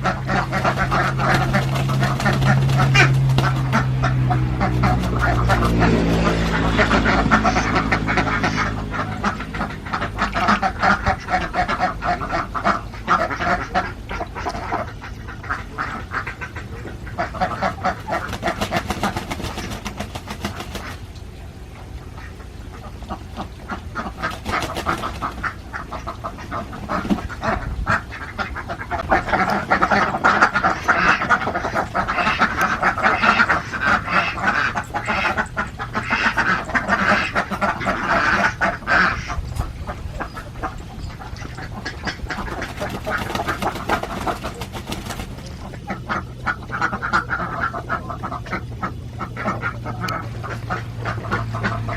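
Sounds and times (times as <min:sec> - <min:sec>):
ducks quacking: 0:00.0 - 0:51.9.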